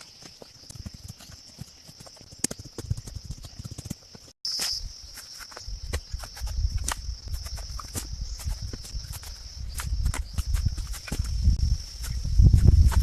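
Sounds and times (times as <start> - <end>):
rapid knocks and scuffs: 0.0 - 4.4, 5.1 - 13.0.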